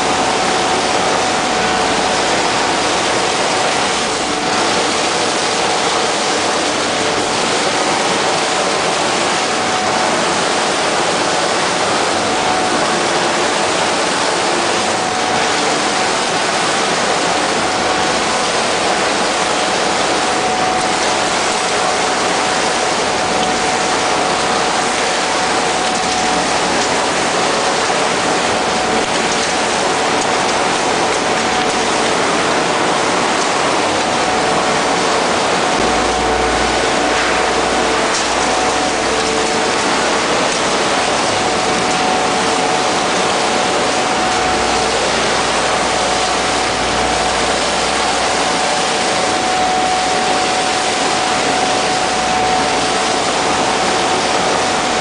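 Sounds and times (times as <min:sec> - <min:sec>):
machine whine: 0:00.0 - 0:55.0.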